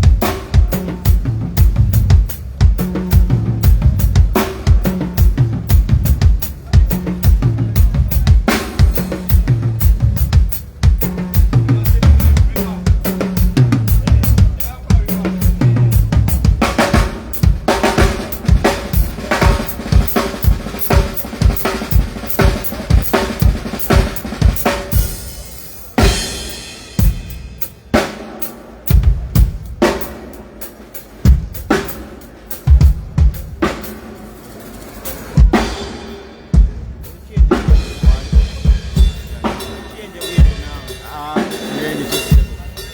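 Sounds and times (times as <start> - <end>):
drum kit hits: 0.0 - 30.4, 35.1 - 42.9.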